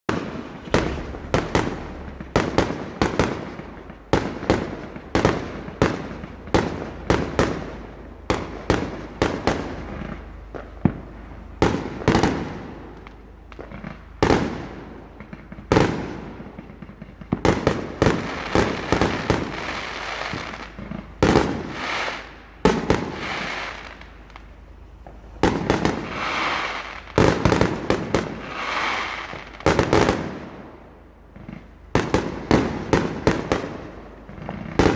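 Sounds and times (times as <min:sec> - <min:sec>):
fireworks bangs: 0:00.0 - 0:34.9
fireworks crackling and hissing: 0:00.0 - 0:34.9.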